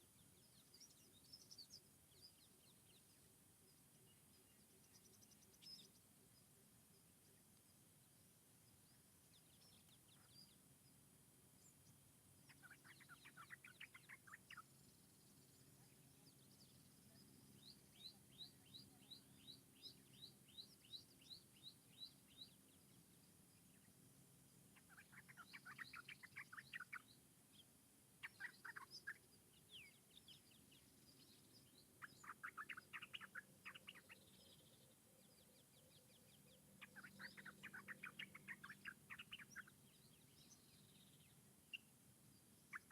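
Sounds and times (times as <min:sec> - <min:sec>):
faint forest ambience: 0:00.0 - 0:42.9
songbirds chirping: 0:00.0 - 0:42.9.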